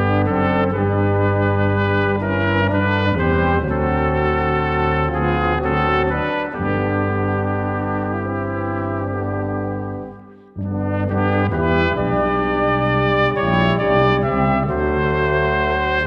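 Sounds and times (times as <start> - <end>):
brass ensemble playing a hymn: 0.0 - 16.0
tuba bass line: 0.0 - 16.0.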